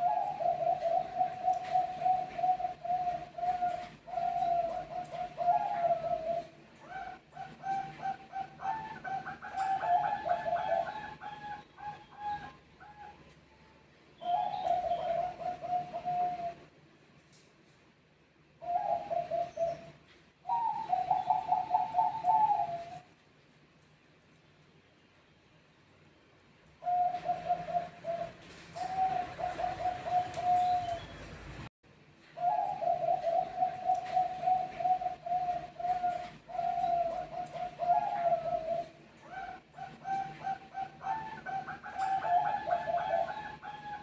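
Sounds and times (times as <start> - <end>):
dove cooing: 0.0 - 13.3, 14.2 - 16.7, 18.6 - 23.1, 26.8 - 31.2, 32.4 - 44.0.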